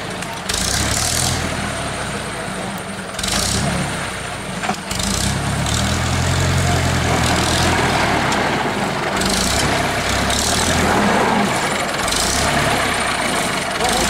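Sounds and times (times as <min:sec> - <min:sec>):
tractor diesel engine: 0:00.0 - 0:14.0.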